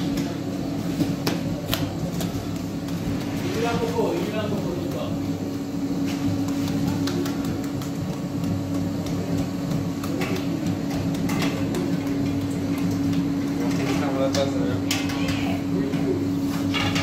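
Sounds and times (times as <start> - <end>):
hands patting bread dough: 0.0 - 14.9
steady mechanical hum: 0.0 - 17.0.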